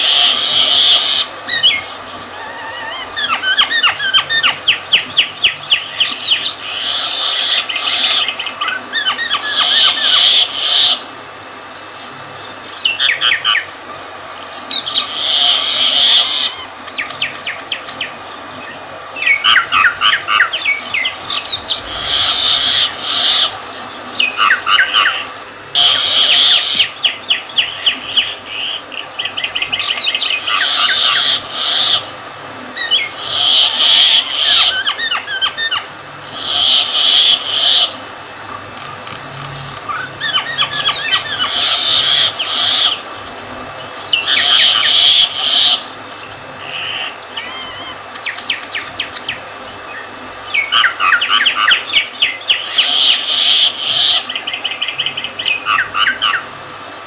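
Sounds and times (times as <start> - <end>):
myna calling: 0.0 - 11.1, 14.6 - 18.4, 19.2 - 49.5, 50.5 - 56.6.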